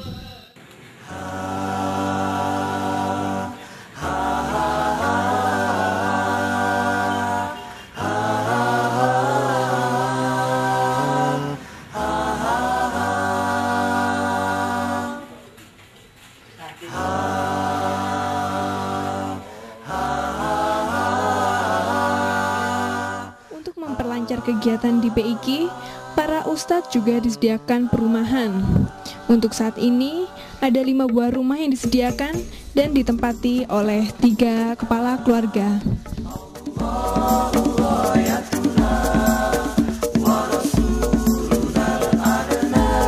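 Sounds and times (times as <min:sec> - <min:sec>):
a cappella group singing chords: 0:00.0 - 0:15.6, 0:16.7 - 0:31.0, 0:33.7 - 0:43.0.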